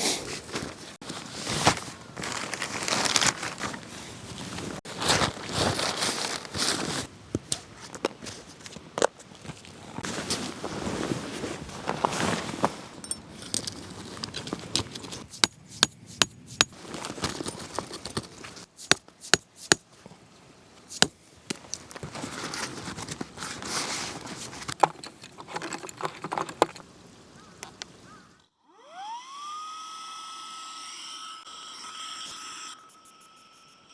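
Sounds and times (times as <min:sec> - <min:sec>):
rustling handling noise: 0:00.0 - 0:28.3.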